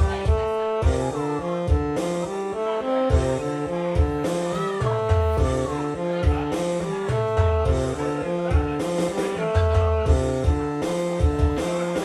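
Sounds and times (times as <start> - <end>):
electronic keyboard melody: 0.0 - 12.0.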